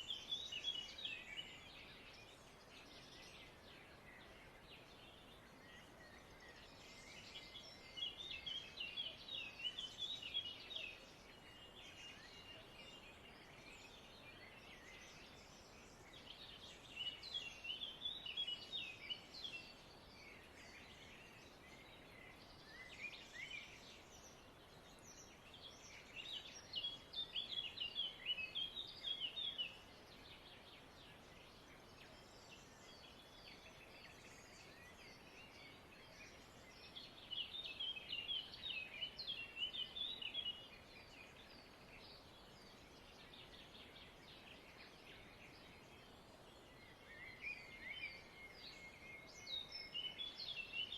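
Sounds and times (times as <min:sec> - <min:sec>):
small birds singing: 0:00.0 - 0:50.9.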